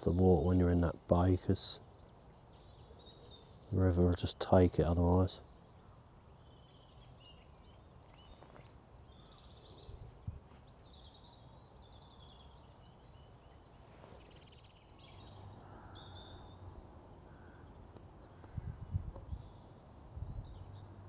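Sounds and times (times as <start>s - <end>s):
faint birdsong chirping: 0.0s - 21.0s.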